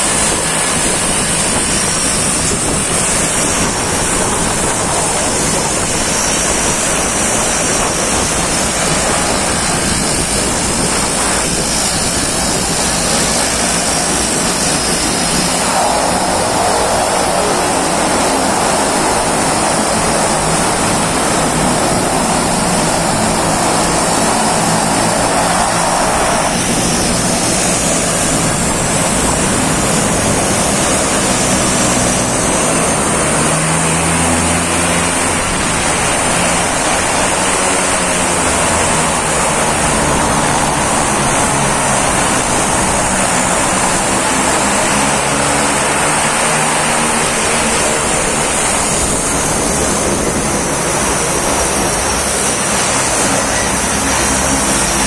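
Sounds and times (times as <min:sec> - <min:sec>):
turboprop engines with turbine whine: 0:00.0 - 0:55.0
whine gliding upward: 0:00.0 - 0:55.0.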